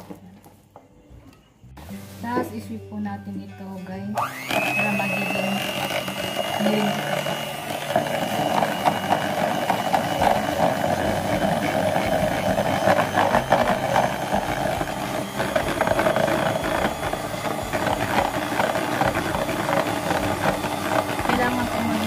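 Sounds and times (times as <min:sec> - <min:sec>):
electric hand mixer running: 0:04.2 - 0:22.0.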